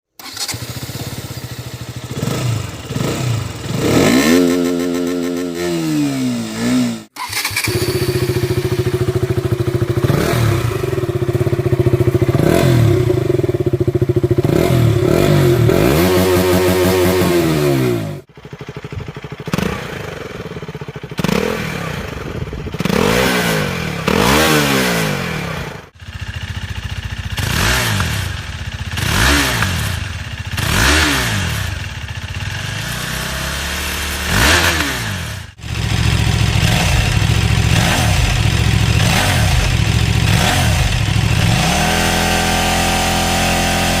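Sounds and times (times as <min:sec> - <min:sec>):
motorcycle exhaust revving: 0:00.6 - 0:44.0.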